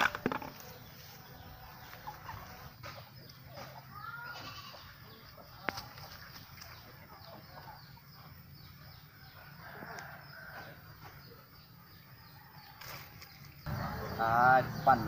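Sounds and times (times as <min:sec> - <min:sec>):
bird calls: 0:00.0 - 0:15.0.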